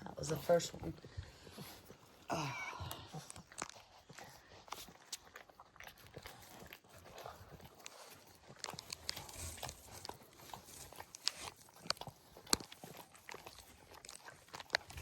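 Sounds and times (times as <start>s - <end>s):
dog licking puppies: 0.0s - 15.0s.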